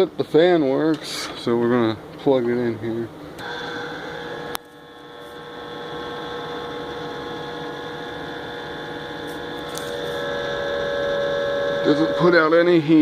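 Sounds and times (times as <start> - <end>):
electric fan motor humming: 0.0 - 13.0.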